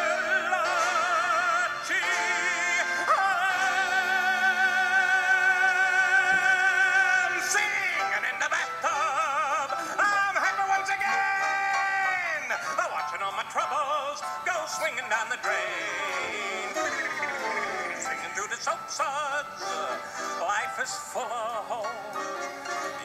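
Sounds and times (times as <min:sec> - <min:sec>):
musical accompaniment: 0:00.0 - 0:23.0
operatic singing: 0:00.0 - 0:23.0.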